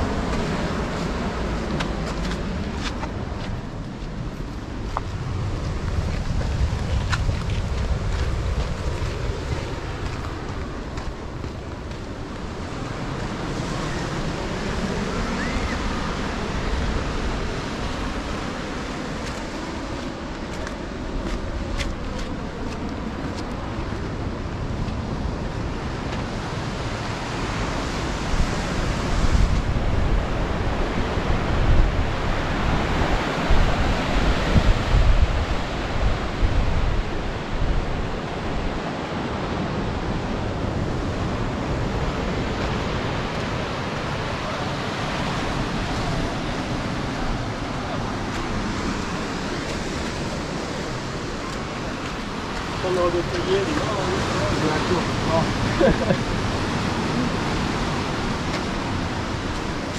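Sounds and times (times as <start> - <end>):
ocean surf breaking on beach: 0.0 - 59.9
wind buffeting microphone: 0.0 - 59.9.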